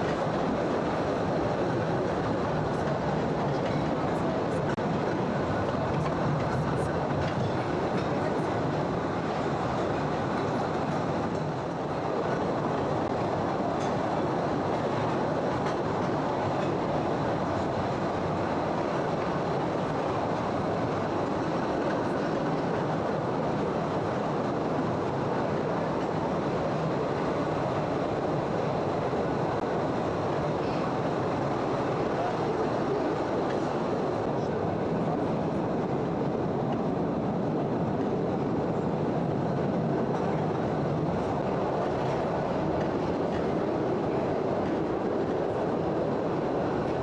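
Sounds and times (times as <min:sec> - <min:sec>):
train wheels on rails: 0:00.0 - 0:47.0.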